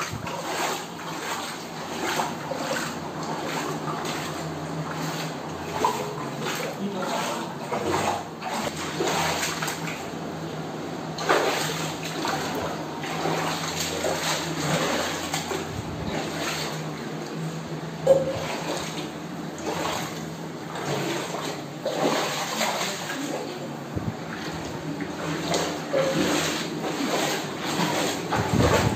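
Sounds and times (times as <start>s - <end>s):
bare feet wading through water: 0.0s - 10.4s, 11.0s - 28.9s
water sloshing and splashing: 0.0s - 28.9s.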